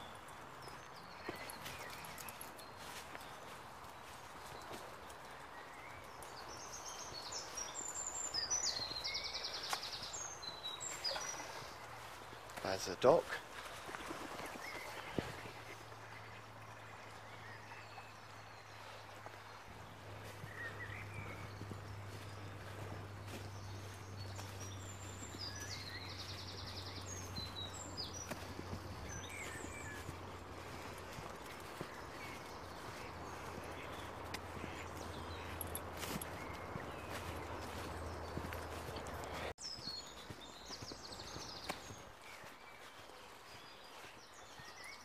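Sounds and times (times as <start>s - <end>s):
small birds chirping: 0.0s - 45.0s
songbird singing: 0.0s - 45.0s
footsteps on grass: 0.8s - 16.4s, 18.8s - 44.8s.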